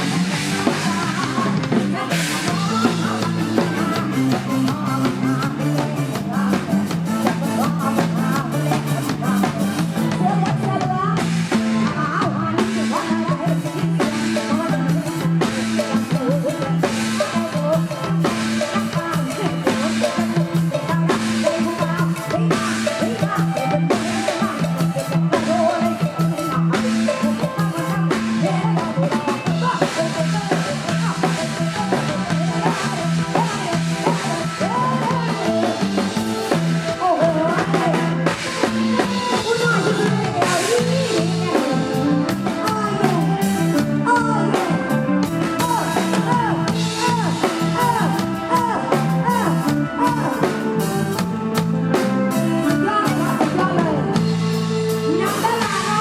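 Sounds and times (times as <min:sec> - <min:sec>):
bass line: 0:00.0 - 0:56.0
drum kit with rimshots: 0:00.0 - 0:56.0
electric guitar: 0:00.0 - 0:56.0.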